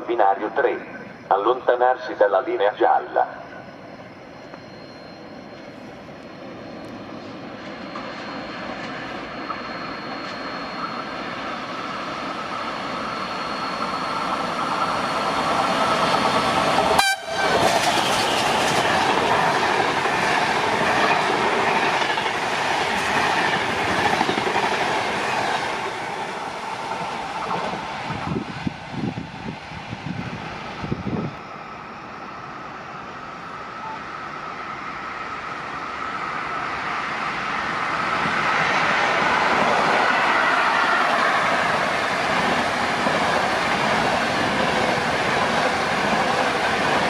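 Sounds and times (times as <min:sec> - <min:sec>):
train passing: 0:00.0 - 0:47.0.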